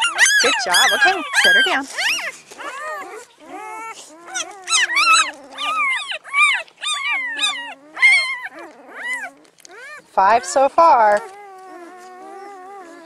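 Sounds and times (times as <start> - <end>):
puppies squealing and whining: 0.0 - 13.0.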